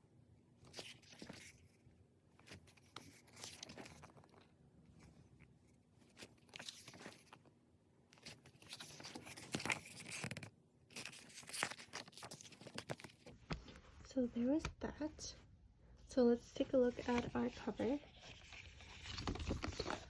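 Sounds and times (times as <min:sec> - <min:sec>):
paper and plastic rustling: 0:00.6 - 0:07.5, 0:08.2 - 0:14.2, 0:16.6 - 0:20.0.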